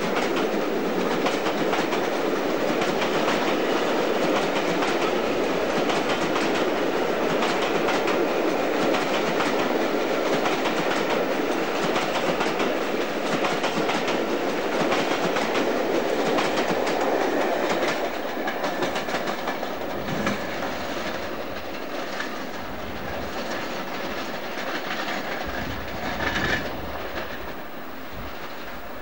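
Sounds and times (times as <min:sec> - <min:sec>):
train coaches rolling past: 0:00.0 - 0:29.0
wheels clicking over rail joints: 0:00.0 - 0:29.0.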